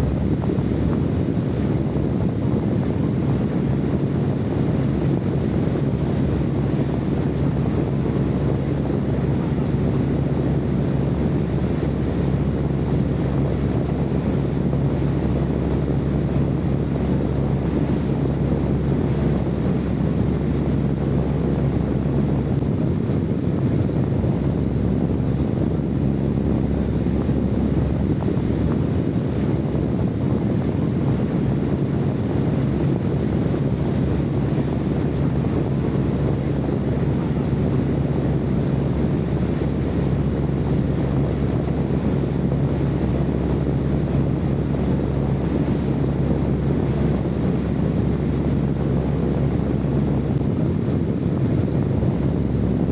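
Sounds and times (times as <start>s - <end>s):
constant low hum: 0.0s - 52.9s
low rumbling noise: 0.0s - 52.9s.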